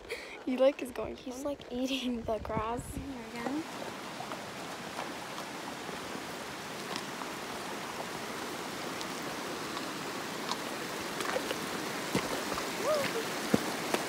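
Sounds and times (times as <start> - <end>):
creek water rushing: 0.0 - 2.2, 3.0 - 14.0.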